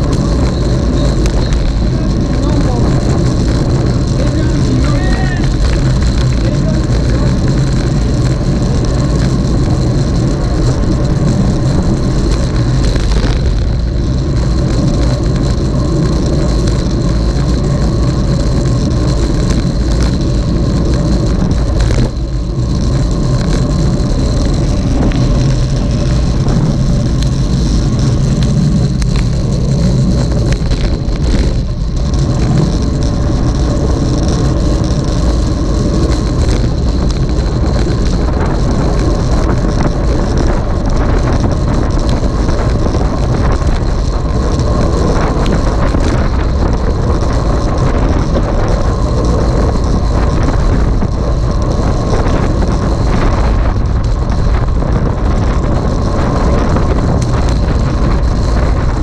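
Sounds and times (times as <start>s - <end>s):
road and wind noise: 0.0s - 59.0s
vehicle engine humming: 0.0s - 59.0s.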